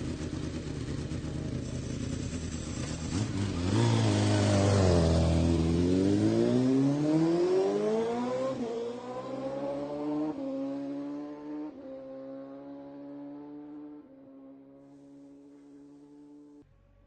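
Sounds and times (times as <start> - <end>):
motorcycle engine accelerating: 0.0 - 16.6.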